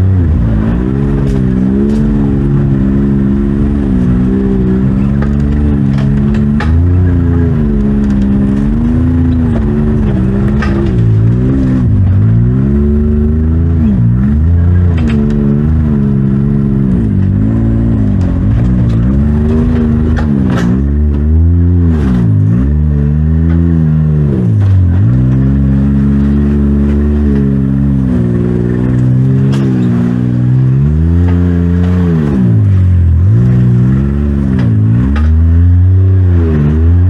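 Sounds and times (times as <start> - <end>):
utility vehicle engine revving: 0.0 - 37.0.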